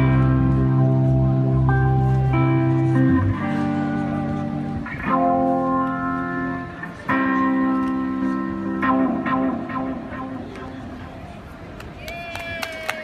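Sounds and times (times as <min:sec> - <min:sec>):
electric guitar chords strummed: 0:00.0 - 0:11.4.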